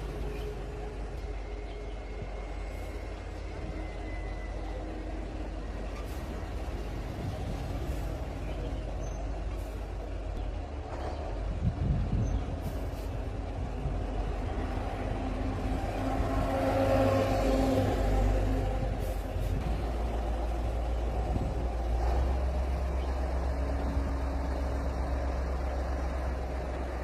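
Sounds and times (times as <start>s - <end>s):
dump truck diesel engine running: 0.0s - 27.0s.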